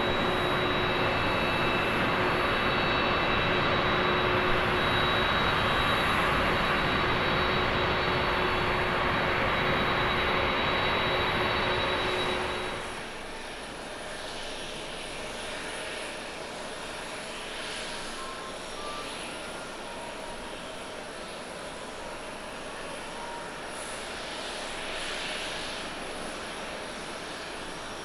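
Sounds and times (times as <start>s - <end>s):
airliner hiss on approach: 0.0s - 28.0s
jet engines at takeoff power: 0.0s - 28.0s.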